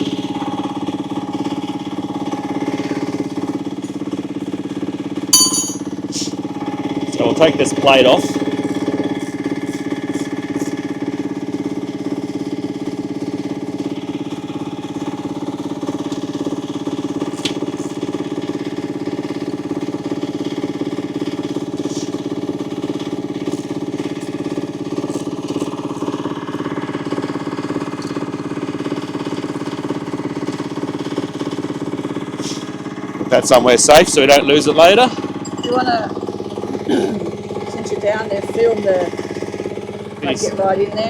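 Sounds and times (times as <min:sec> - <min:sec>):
excavator engine idling: 0:07.9 - 0:41.0.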